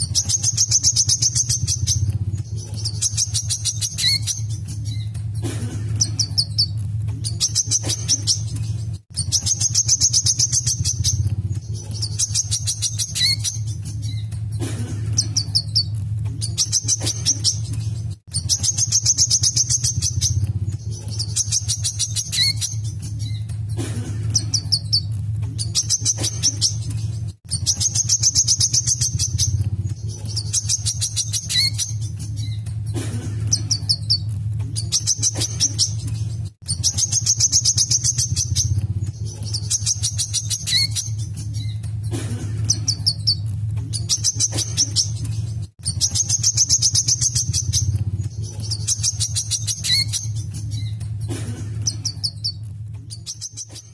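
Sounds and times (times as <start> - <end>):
bird trilling song: 0.0 - 53.9
steady low hum: 0.0 - 53.9.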